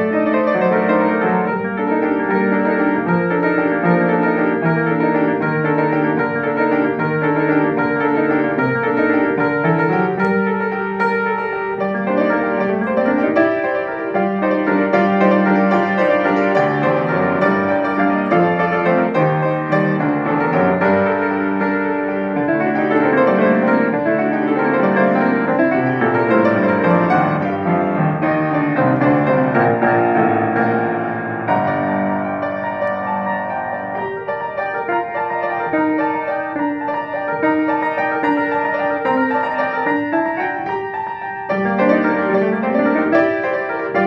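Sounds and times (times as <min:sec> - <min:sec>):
grand piano piece: 0:00.0 - 0:44.0.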